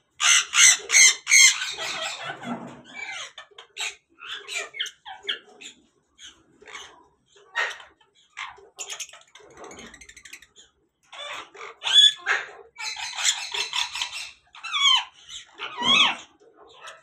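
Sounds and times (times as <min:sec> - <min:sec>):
parrots squawking and whistling: 0:00.1 - 0:17.0.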